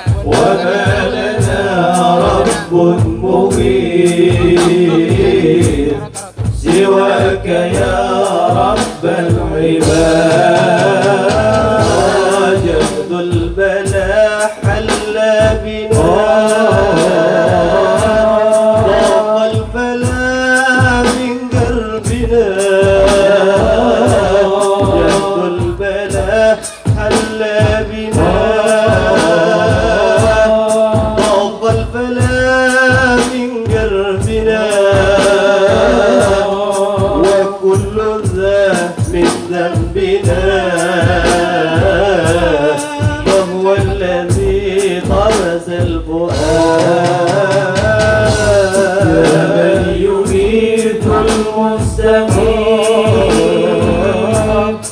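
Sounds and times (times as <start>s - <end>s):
low drum beat: 0.0s - 54.9s
men singing devotional songs: 0.0s - 54.9s.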